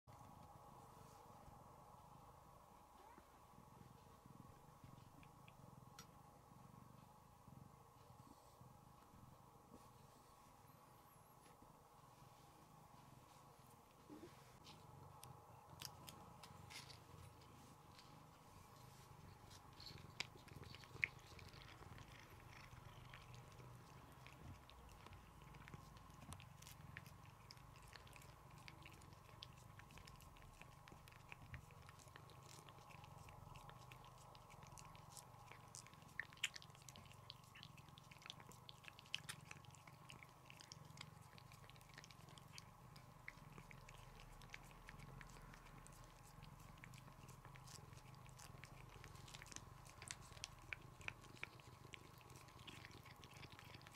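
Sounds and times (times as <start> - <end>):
low steady hum: 0.1 - 53.9.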